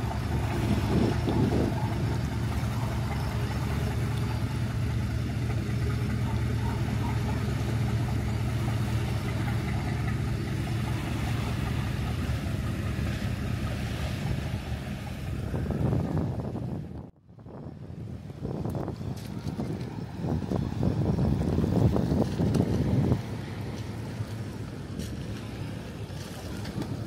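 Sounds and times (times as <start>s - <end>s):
boat engines droning: 0.0s - 27.0s
wind and water hiss: 0.0s - 27.0s.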